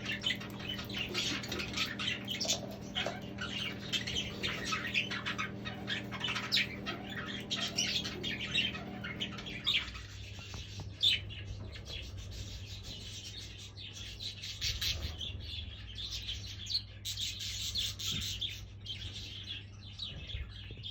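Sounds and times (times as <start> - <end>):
budgerigars chattering: 0.0 - 20.9.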